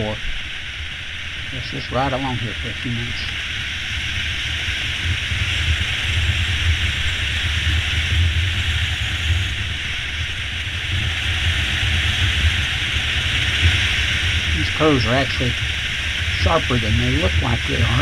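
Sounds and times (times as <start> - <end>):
motorcycle engine and road rumble: 0.0 - 18.0
wind noise on microphone: 3.2 - 18.0.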